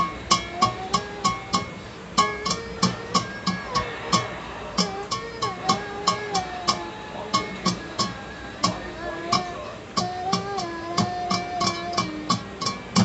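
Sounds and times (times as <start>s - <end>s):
ringtone music: 0.0s - 12.8s
sharp percussive clicks: 0.0s - 13.0s.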